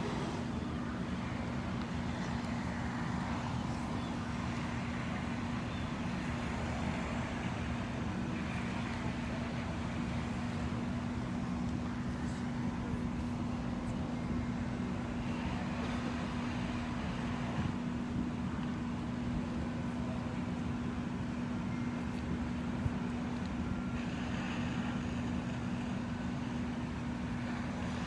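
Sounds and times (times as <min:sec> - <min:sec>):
outdoor noise: 0:00.0 - 0:28.0
truck engine running: 0:00.0 - 0:28.0.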